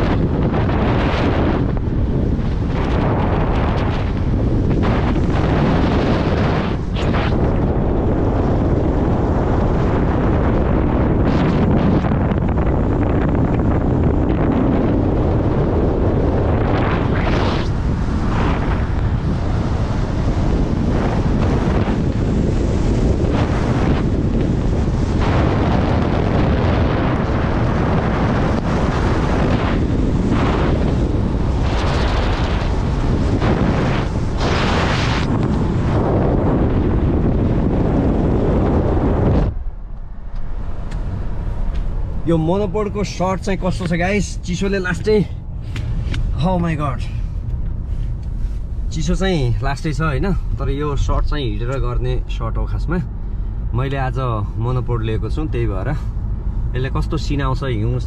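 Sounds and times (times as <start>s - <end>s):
heavy wind buffeting microphone: 0.0s - 58.0s.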